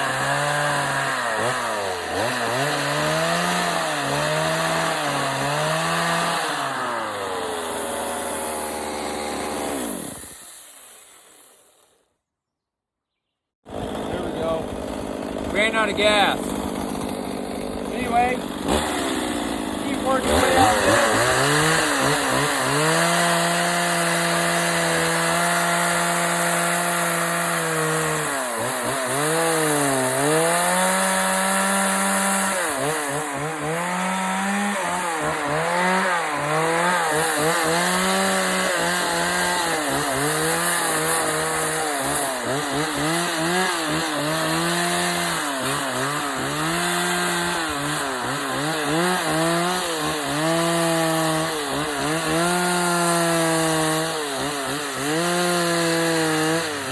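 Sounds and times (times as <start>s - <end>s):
chainsaw cutting wood: 0.0s - 12.1s, 13.6s - 56.9s.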